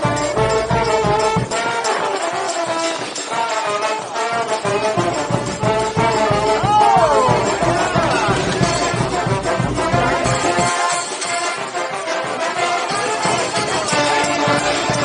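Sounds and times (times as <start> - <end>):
brass band playing: 0.0 - 15.0
drum beat: 0.0 - 15.0.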